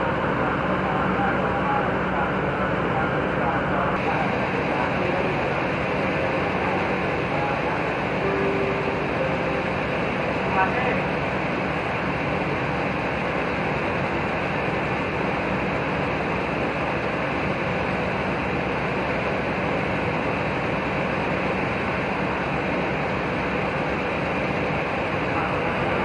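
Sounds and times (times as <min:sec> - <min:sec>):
bus engines idling: 0:00.0 - 0:26.0.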